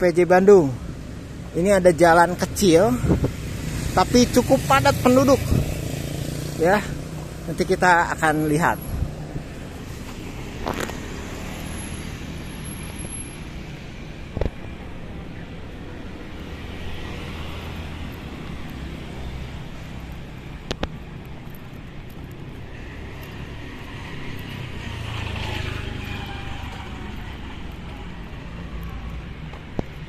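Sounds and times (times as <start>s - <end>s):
street traffic noise: 0.0s - 30.0s.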